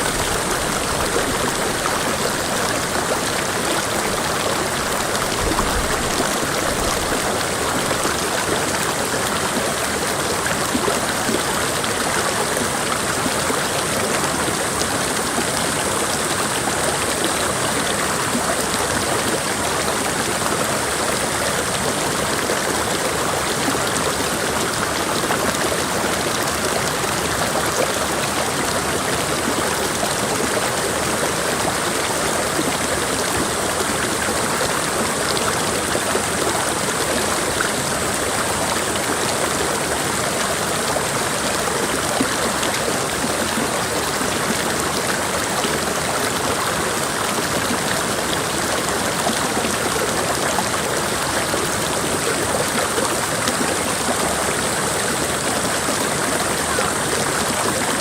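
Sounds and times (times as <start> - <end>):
creek water over rocks: 0.0 - 58.0.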